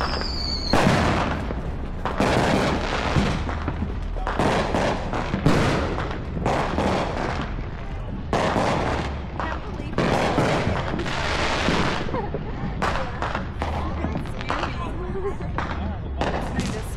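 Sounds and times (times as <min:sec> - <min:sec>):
fireworks bangs with crackle: 0:00.0 - 0:16.9
whistling firework: 0:00.0 - 0:16.9.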